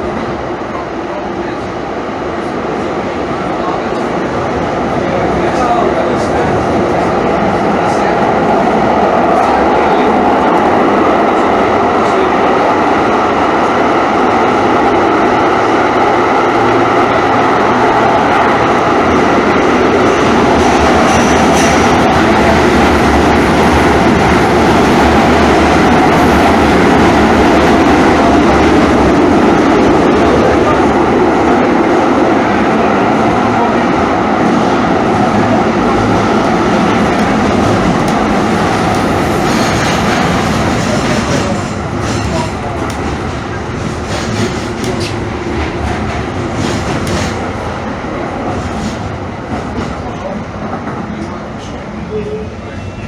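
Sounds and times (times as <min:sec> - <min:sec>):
light-rail car wheels rumbling: 0:00.0 - 0:53.0.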